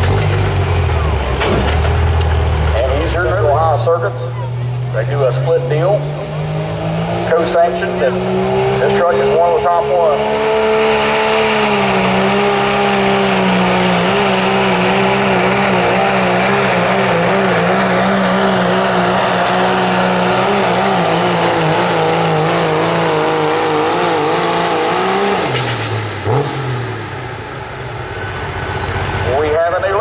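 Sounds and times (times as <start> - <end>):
diesel truck engine revving: 0.0 - 30.0.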